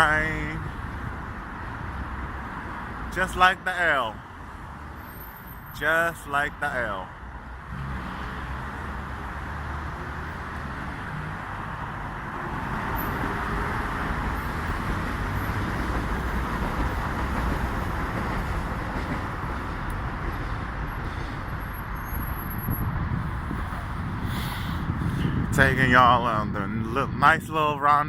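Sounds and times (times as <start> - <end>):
passing vehicles rumbling: 0.0 - 28.0.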